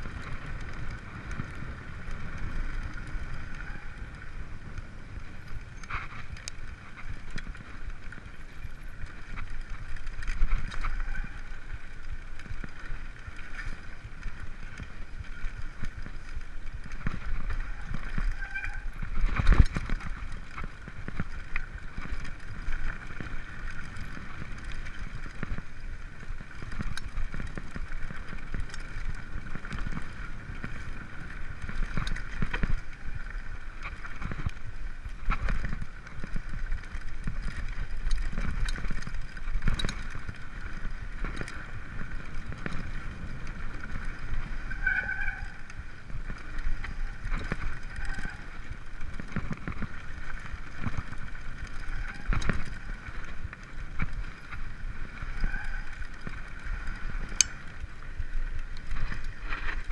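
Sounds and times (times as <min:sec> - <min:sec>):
bike rattling over rough ground: 0:00.0 - 0:59.9
wind rumble on microphone: 0:00.0 - 0:59.9.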